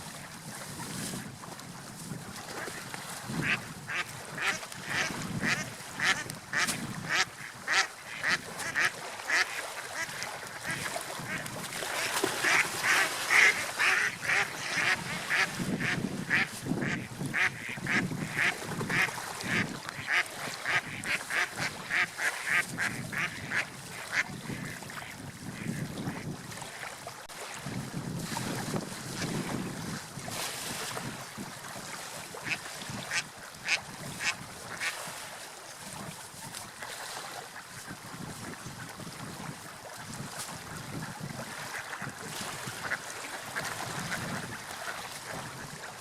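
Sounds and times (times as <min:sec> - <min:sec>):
sea wash: 0:00.0 - 0:46.0
wind: 0:00.0 - 0:46.0.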